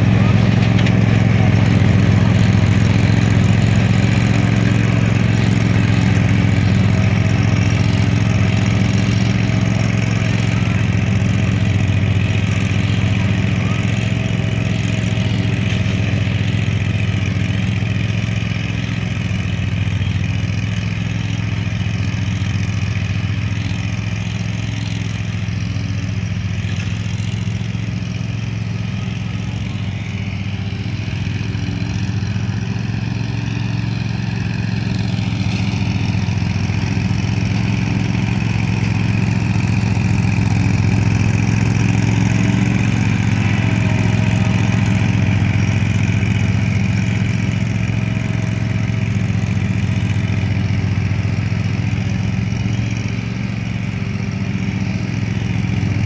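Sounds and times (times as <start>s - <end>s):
mower engine humming: 0.0s - 56.0s.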